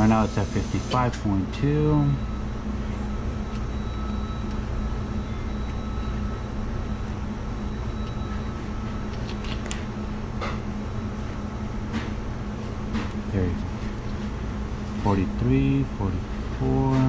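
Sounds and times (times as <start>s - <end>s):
refrigeration unit humming: 0.0s - 17.0s.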